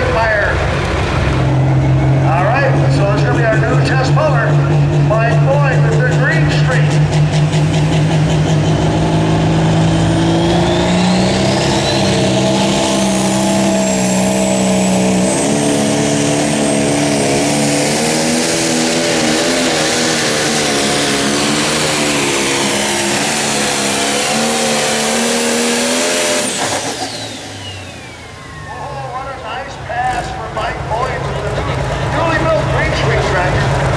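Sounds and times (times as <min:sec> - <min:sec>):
high turbo whine: 0:00.0 - 0:33.9
tractor diesel engine at full power: 0:00.0 - 0:33.9.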